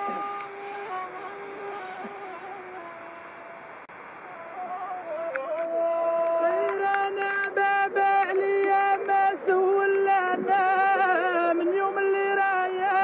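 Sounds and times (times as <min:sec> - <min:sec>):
person singing long ornamented notes: 0:00.0 - 0:03.7, 0:04.3 - 0:13.0.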